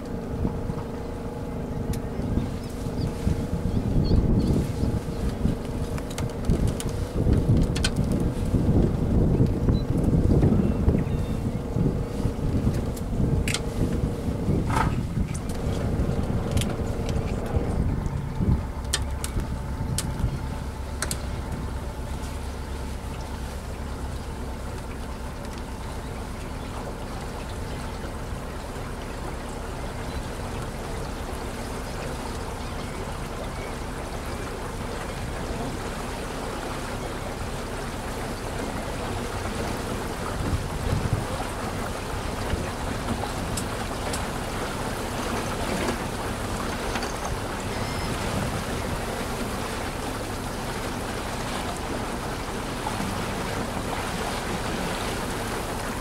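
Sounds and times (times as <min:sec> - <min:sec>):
boat motor running: 0:00.0 - 0:56.0
water washing against hull: 0:00.0 - 0:56.0.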